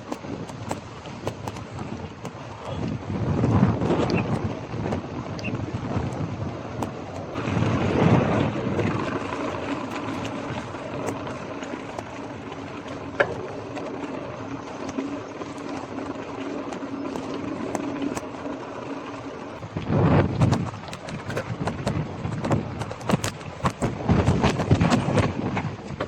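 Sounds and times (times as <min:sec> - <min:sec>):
clicks and rattles: 0:00.0 - 0:07.5, 0:08.1 - 0:14.1, 0:14.7 - 0:26.0
bike tyres on wet street: 0:00.0 - 0:26.0.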